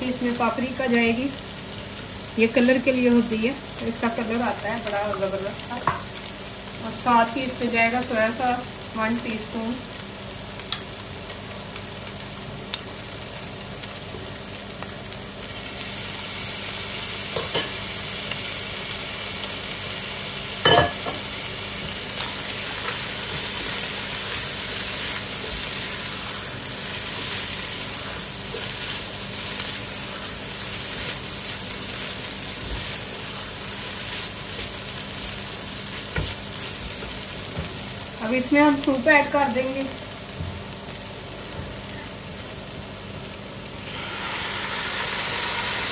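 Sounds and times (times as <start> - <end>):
chicken sizzling in a pot: 0.0 - 45.9.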